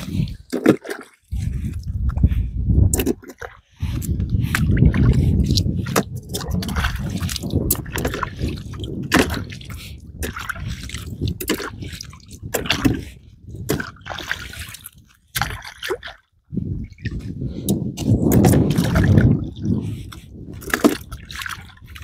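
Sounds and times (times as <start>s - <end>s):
seawater splashing and sloshing: 0.0s - 22.0s.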